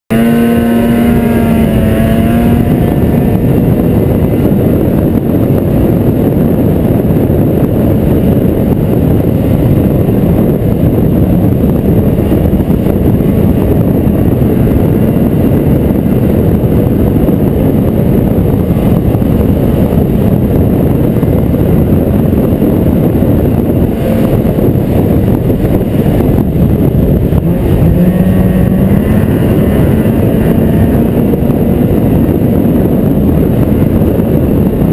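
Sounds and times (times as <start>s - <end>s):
snowmobile engine running: 0.1s - 34.9s.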